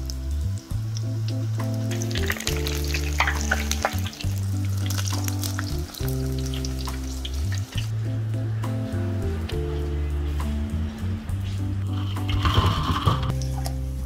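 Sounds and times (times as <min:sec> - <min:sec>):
background music with low notes: 0:00.0 - 0:14.0
chillies deep-frying in oil: 0:00.0 - 0:14.0.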